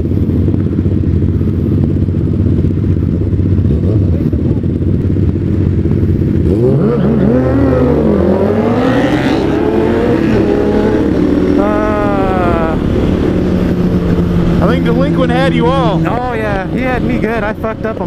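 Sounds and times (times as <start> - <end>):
motorcycle engines rumbling: 0.0 - 18.0
motorcycles revving through gears: 0.0 - 18.0.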